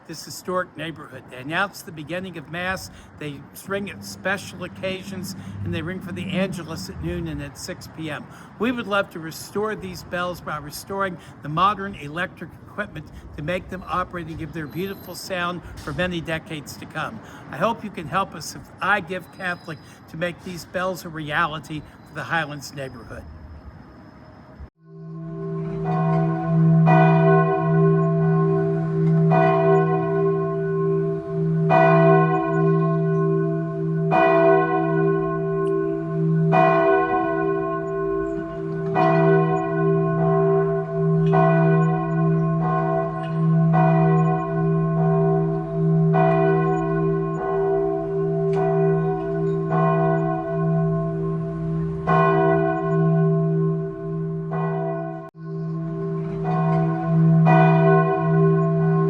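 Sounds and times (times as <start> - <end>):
church bell tolling: 0.9 - 12.2, 12.9 - 23.1, 24.9 - 59.0.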